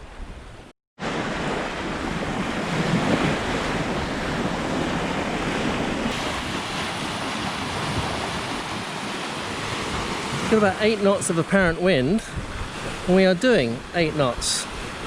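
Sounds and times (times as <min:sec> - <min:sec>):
wind buffeting microphone: 0:00.0 - 0:15.0
water rushing along hull: 0:01.0 - 0:15.0.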